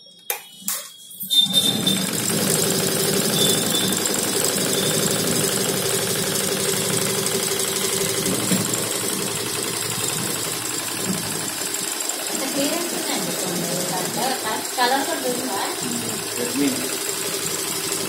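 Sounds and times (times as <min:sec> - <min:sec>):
embroidery machine clattering: 0:01.4 - 0:18.0.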